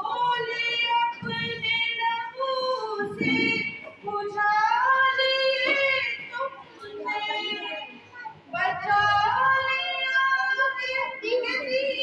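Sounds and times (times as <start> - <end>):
girl singing into a microphone: 0.0 - 12.0.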